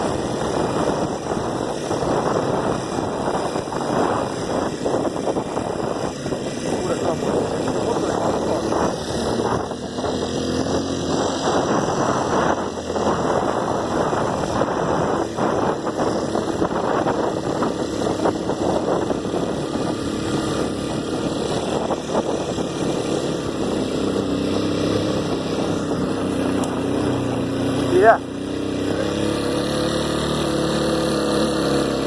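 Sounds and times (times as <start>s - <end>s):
motorcycle engine running: 0.0s - 32.0s
steady rushing noise: 0.0s - 32.0s.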